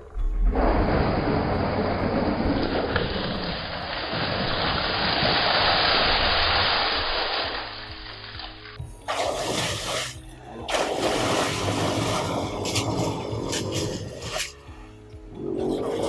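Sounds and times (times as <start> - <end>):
water gushing from pump outlet: 0.0 - 14.7, 15.4 - 16.0.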